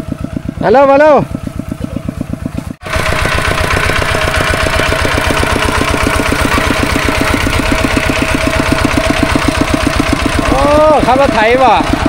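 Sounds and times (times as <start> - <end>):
diesel engine chugging: 0.0 - 12.0.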